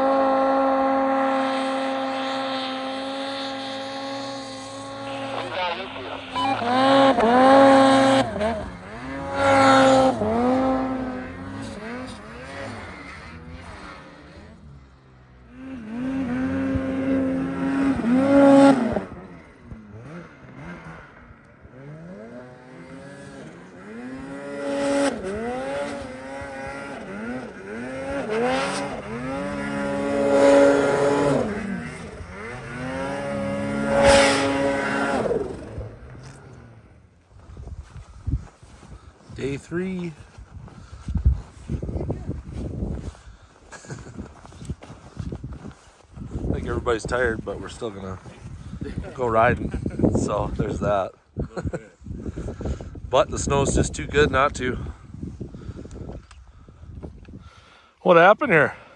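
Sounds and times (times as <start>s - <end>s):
snowmobile engines revving: 0.0s - 55.0s.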